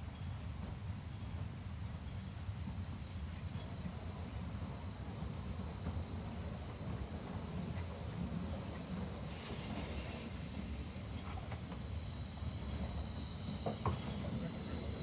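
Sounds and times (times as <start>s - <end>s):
steam locomotive hissing: 2.7s - 15.0s.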